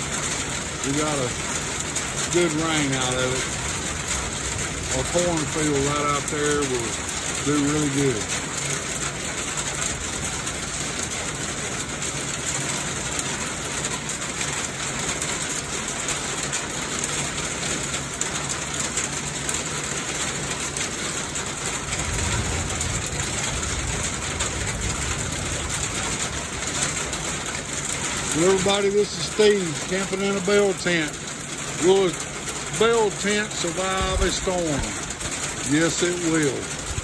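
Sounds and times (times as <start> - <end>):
rain falling on puddles: 0.0 - 37.0.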